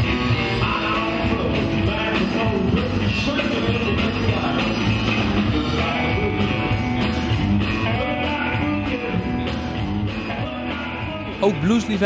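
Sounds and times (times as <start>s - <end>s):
drum kit beat: 0.0s - 12.0s
electric bass: 0.0s - 12.0s
electric guitars: 0.0s - 12.0s.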